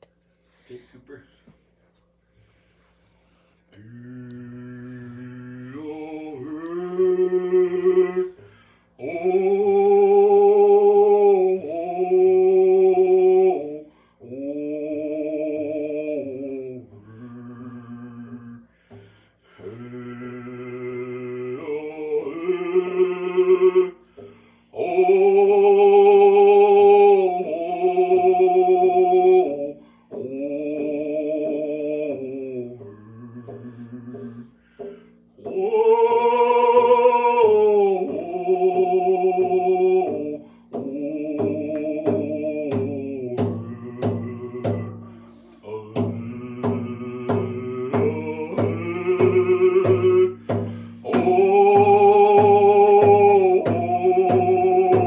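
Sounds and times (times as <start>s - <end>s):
man singing: 3.7s - 55.0s
frame drum beat: 5.0s - 55.0s.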